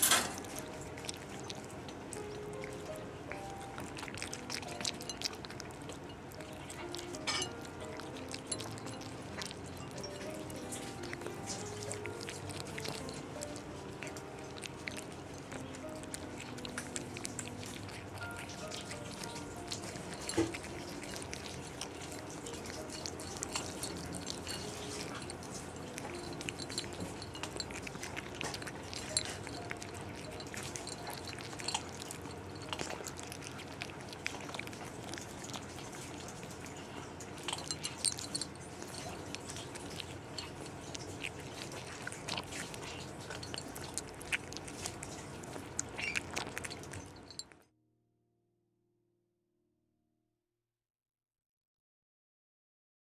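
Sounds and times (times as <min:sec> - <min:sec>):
kitten chewing wet food: 0:00.0 - 0:47.7.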